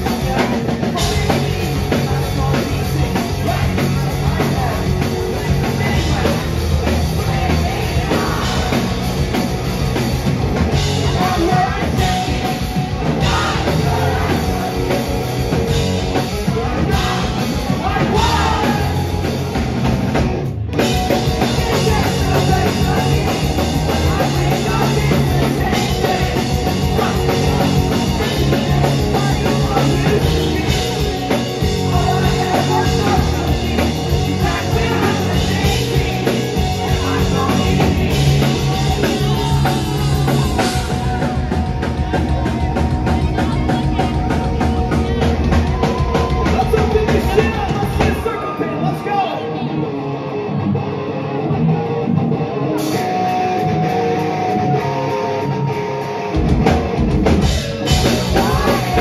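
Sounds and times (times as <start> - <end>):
lead vocal singing: 0.0 - 19.7, 20.8 - 49.8, 57.2 - 59.0
live rock band playing: 0.0 - 59.0.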